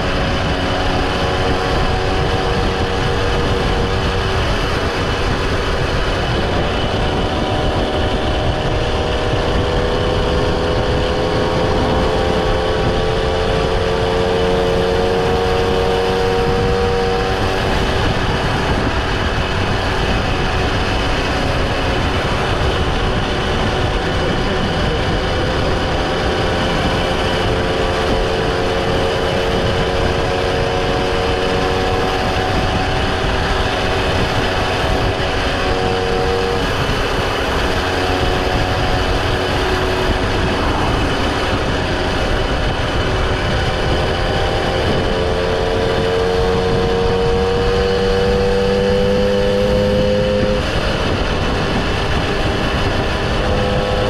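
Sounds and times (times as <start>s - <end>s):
road noise: 0.0s - 54.0s
vehicle engine running: 0.0s - 54.0s
wind noise: 0.0s - 54.0s.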